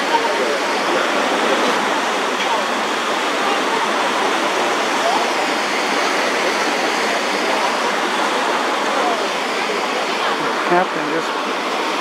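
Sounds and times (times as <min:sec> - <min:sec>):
white water rushing: 0:00.0 - 0:12.0.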